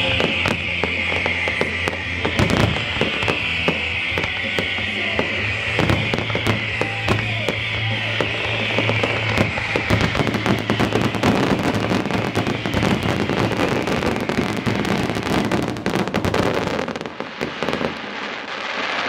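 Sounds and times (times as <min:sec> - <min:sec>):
fireworks bursting and crackling: 0:00.0 - 0:19.0.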